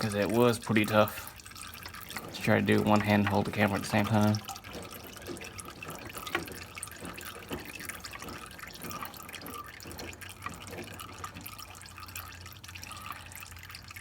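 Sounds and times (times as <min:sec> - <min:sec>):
oil dripping into pan: 0:00.0 - 0:14.0.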